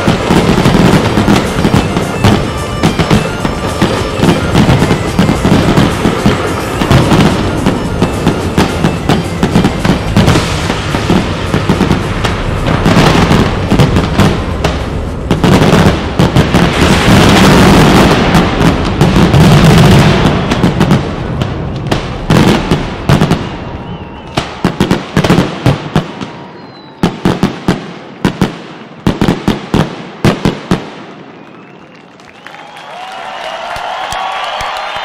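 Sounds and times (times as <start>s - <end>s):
fireworks bangs and crackle: 0.0s - 35.0s.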